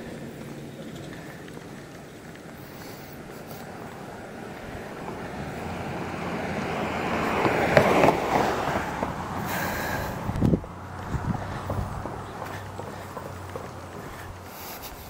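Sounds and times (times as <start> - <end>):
car passing by: 0.0 - 14.9.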